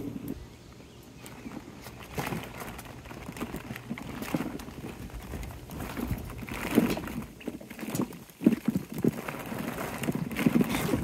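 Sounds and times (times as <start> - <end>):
plastic balls knocking and rustling: 1.2 - 11.0.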